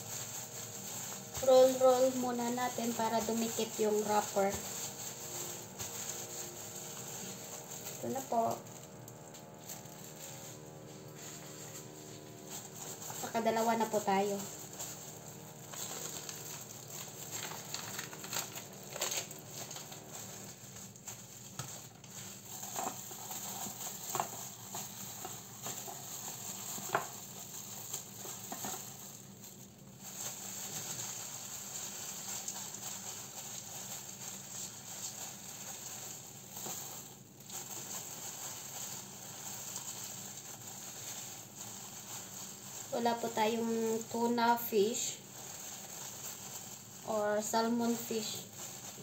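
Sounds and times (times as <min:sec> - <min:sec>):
plastic gloves and film crinkling: 0:00.0 - 0:49.0.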